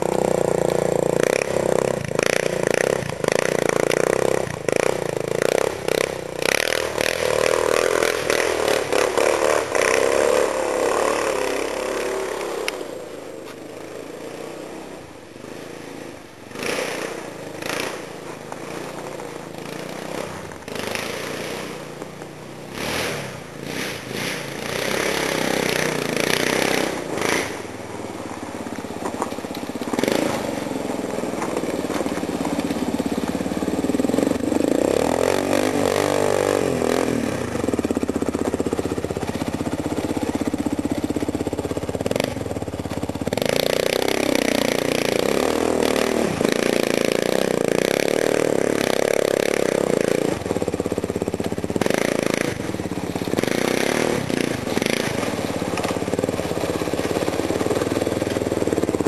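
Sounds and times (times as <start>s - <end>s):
quad engine revving: 0.0s - 59.0s.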